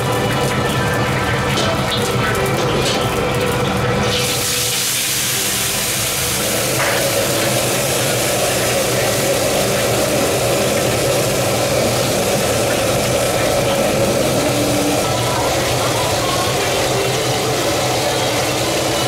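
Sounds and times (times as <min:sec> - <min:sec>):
fish sizzling in hot oil: 0:00.0 - 0:19.0
gas burner rushing: 0:00.0 - 0:19.0.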